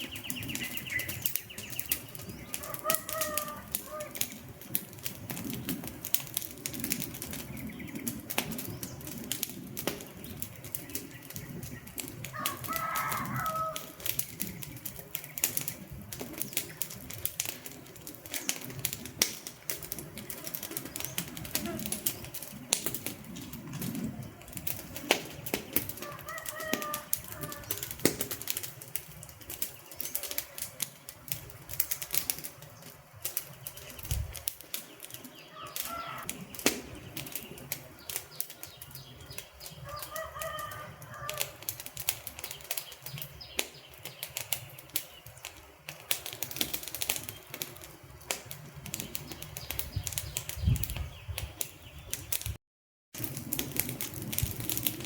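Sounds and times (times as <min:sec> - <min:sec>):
wood fire crackling and popping: 0:00.0 - 0:52.6, 0:53.2 - 0:55.0.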